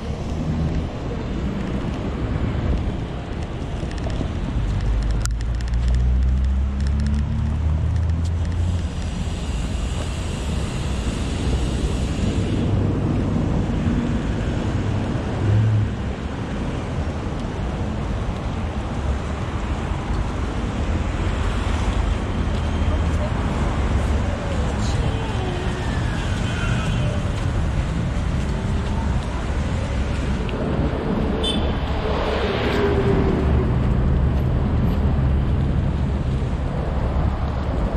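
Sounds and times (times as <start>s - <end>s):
passing cars: 0.0s - 37.9s
wind noise on microphone: 0.0s - 37.9s.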